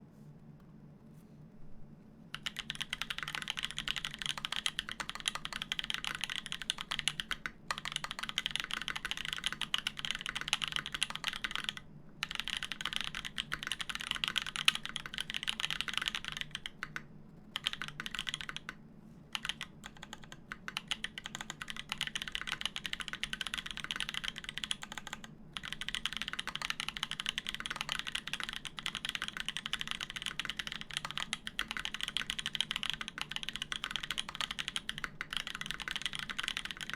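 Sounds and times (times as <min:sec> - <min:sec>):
fast typing on mechanical keyboard: 0:02.3 - 0:36.9.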